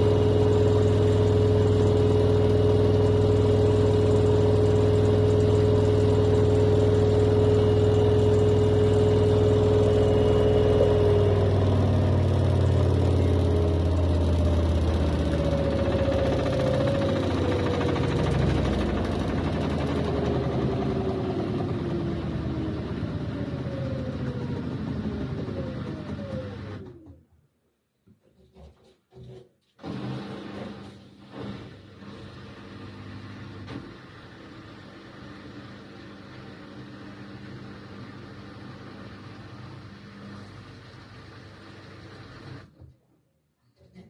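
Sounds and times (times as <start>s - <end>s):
washing machine running: 0.0s - 27.2s, 29.8s - 42.8s.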